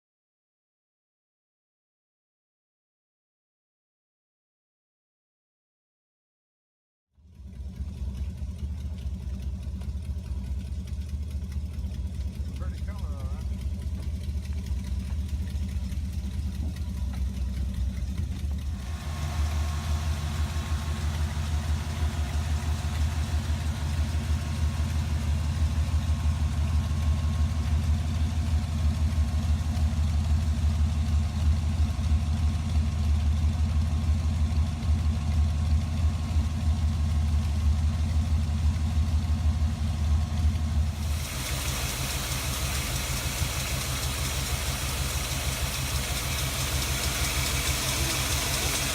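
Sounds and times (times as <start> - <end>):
car engine idling: 7.2 - 48.9.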